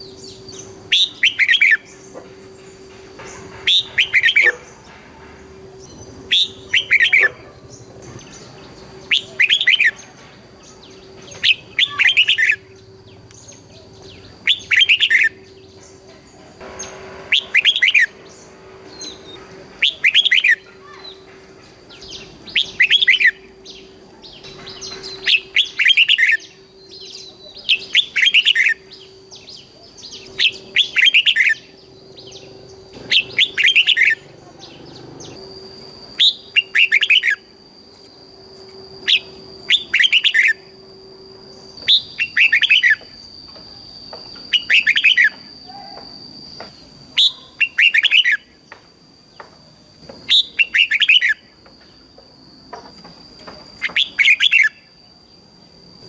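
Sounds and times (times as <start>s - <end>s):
bulbul singing warbled phrases: 0.0s - 4.9s, 5.7s - 37.5s, 39.0s - 40.8s, 41.6s - 43.2s, 44.5s - 48.6s, 50.3s - 51.5s.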